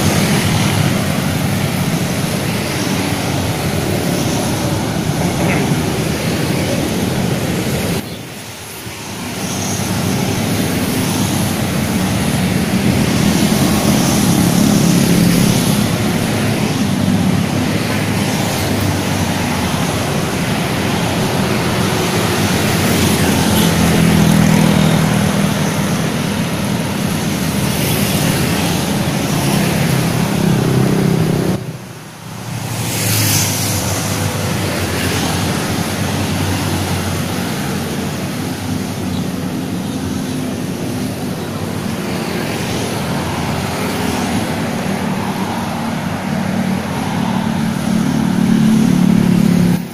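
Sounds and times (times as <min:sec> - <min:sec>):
scooters and cars driving past: 0:00.0 - 0:49.9.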